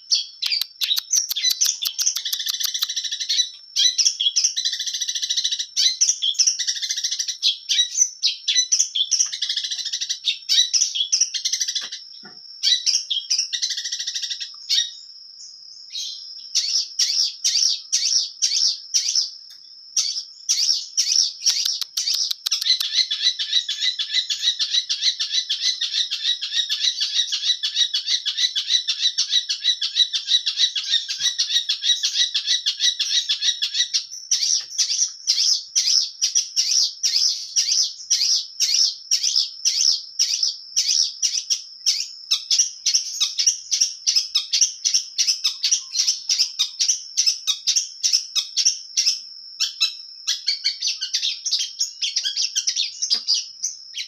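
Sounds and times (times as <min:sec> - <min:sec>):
bird singing chattering song: 0:00.0 - 0:54.0.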